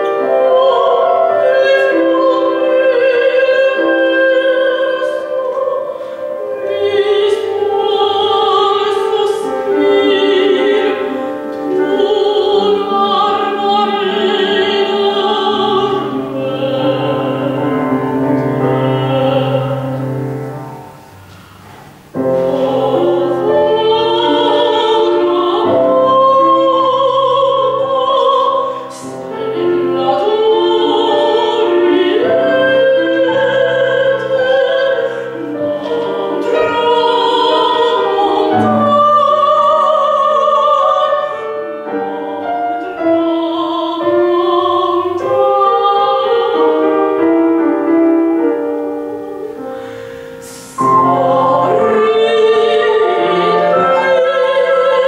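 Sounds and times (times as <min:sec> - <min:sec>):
woman singing opera: 0:00.0 - 0:21.2, 0:22.0 - 0:55.0
grand piano accompaniment: 0:00.0 - 0:55.0.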